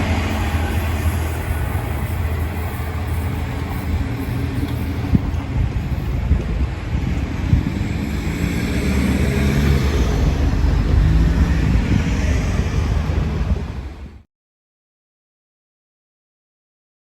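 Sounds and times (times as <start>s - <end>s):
diesel railcar engine and wheels rumbling: 0.0s - 14.2s
wind on microphone: 0.0s - 14.2s.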